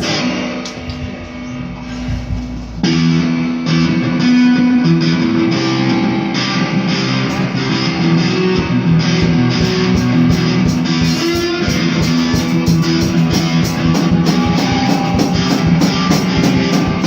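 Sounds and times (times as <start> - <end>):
bass line: 0.0 - 17.0
guitars playing chords: 0.0 - 17.0.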